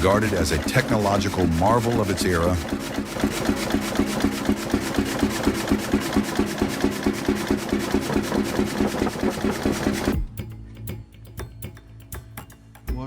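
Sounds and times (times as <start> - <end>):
engine running with steady beat: 0.0 - 13.0.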